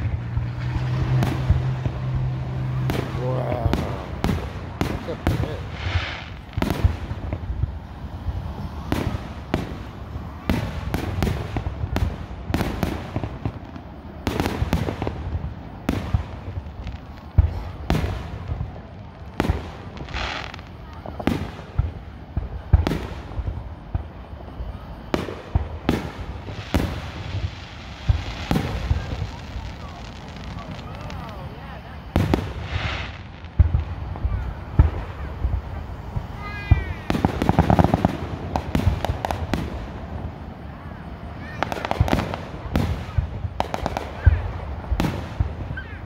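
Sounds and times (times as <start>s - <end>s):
constant low rumble: 0.0s - 46.0s.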